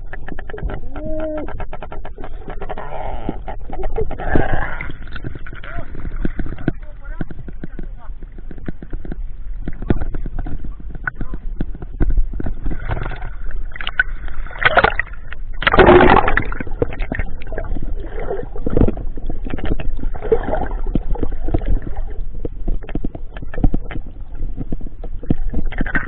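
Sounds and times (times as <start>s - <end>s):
water sloshing and gurgling: 0.0s - 26.0s
water splashing: 0.0s - 26.0s.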